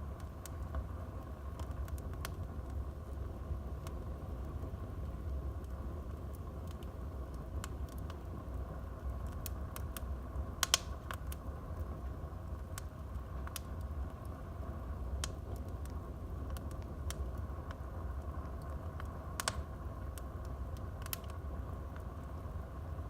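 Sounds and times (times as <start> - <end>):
wood fire burning: 0.0 - 23.0.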